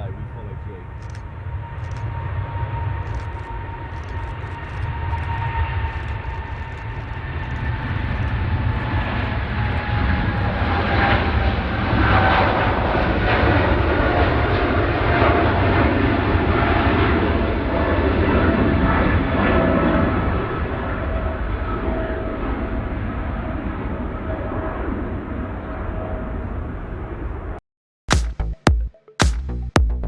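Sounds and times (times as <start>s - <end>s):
jet engine whine: 0.0s - 27.6s
low jet rumble: 0.0s - 27.6s.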